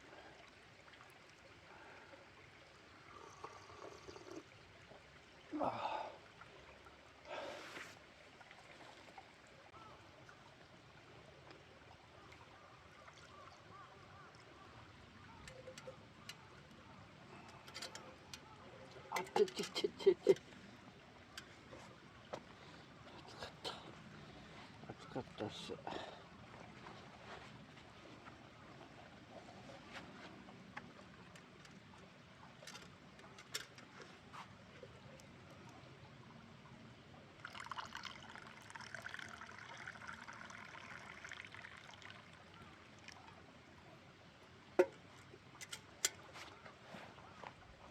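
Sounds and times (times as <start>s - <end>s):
stream running over stones: 0.0s - 47.9s.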